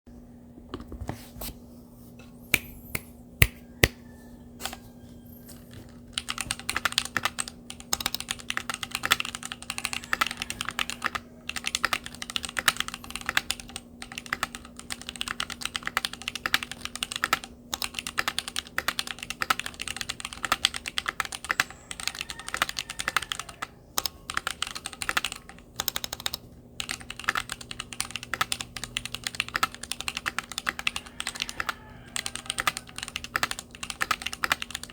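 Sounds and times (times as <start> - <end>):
mechanical keyboard typing: 5.7 - 34.9.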